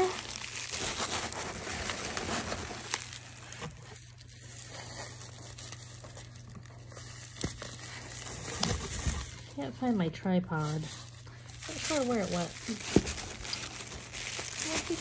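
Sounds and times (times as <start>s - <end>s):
shredded paper rustling: 0.0s - 15.0s.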